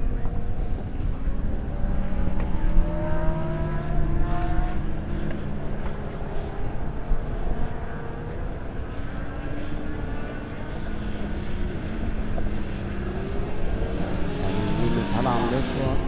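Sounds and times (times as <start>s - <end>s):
racing motorcycle engines high revs: 0.0s - 16.0s.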